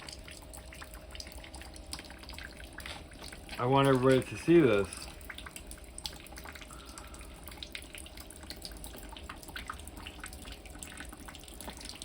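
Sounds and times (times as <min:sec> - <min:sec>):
water dripping: 0:00.0 - 0:12.0
water trickling: 0:00.0 - 0:12.0.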